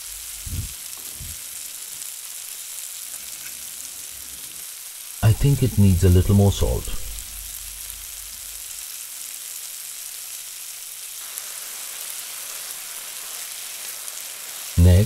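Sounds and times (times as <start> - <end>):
gravy boiling in a pan: 0.0 - 15.0.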